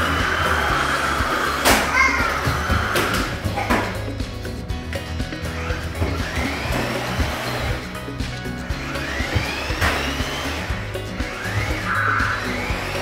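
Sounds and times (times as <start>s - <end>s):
toy car motor whining: 0.0s - 3.4s, 5.4s - 13.0s
background music: 0.0s - 13.0s.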